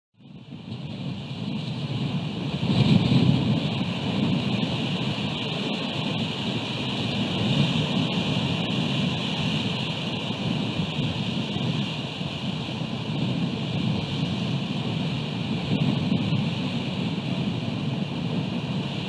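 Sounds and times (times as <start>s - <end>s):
ocean surf: 0.2s - 19.0s
rain: 0.2s - 19.0s
wind on microphone: 0.2s - 19.0s.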